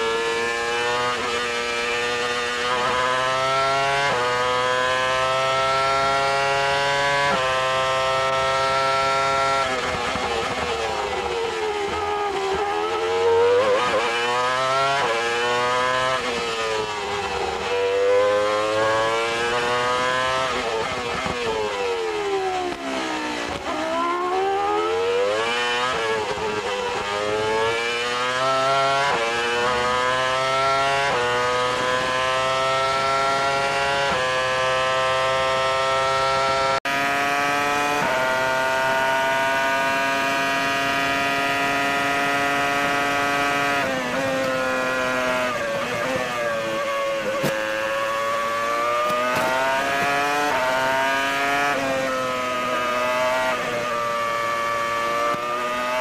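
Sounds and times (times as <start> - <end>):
racing car engine shifting gears: 0.0 - 56.0
racing engine revving at standstill: 0.0 - 56.0.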